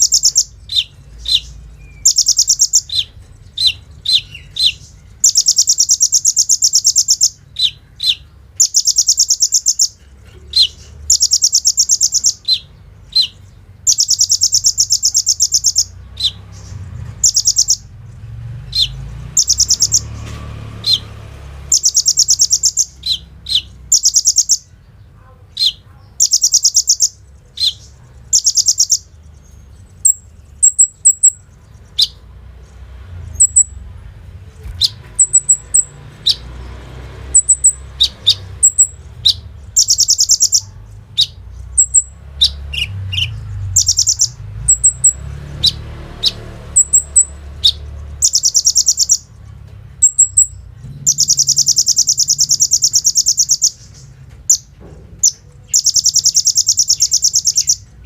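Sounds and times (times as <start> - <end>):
bird rapid rattling trills: 0.0 - 24.7, 25.7 - 33.8, 34.8 - 58.0.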